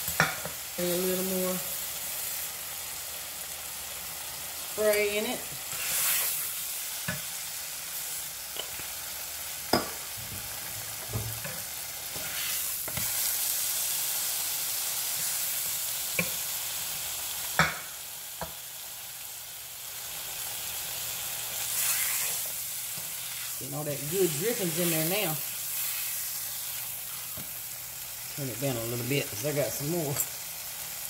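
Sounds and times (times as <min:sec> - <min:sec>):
ham sizzling in a frying pan: 0:00.0 - 0:31.0.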